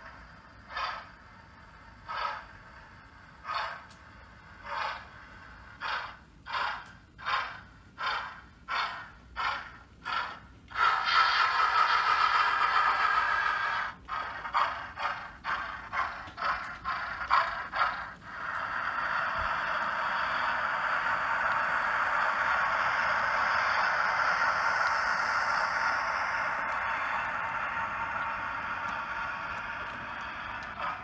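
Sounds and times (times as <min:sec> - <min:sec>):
model steam locomotive chuffs: 0:00.0 - 0:31.0
steady steam hiss: 0:00.0 - 0:31.0.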